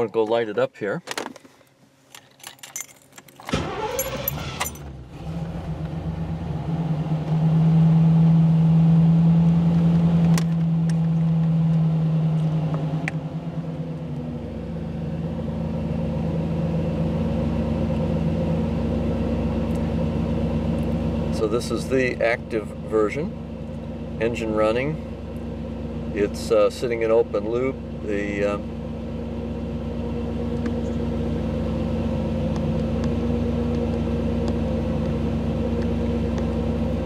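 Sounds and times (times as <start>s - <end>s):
car engine starting and idling: 2.2s - 37.0s.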